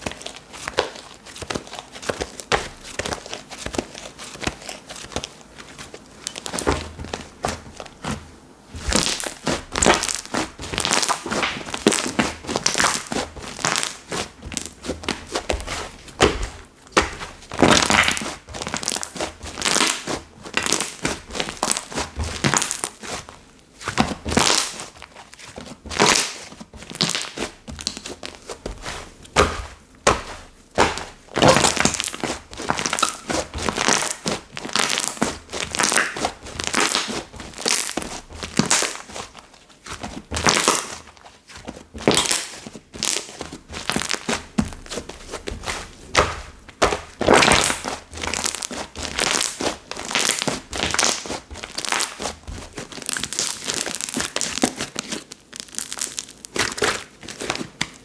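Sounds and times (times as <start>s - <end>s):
hands squishing slime: 0.0s - 58.0s.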